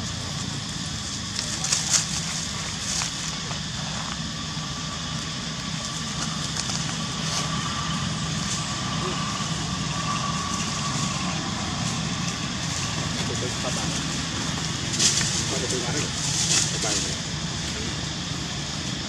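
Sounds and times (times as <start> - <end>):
engine humming: 0.0 - 19.0
dry leaves crackling: 0.9 - 19.0.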